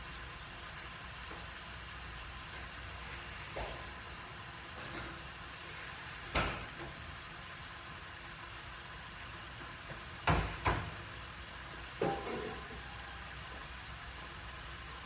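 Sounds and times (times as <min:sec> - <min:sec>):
gas stove low noise: 0:00.0 - 0:15.0.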